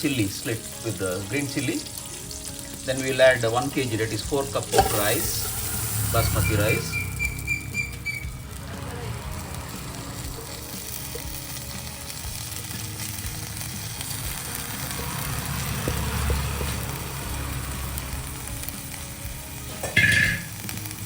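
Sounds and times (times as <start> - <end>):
rice and spices sizzling in pot: 0.0 - 21.0.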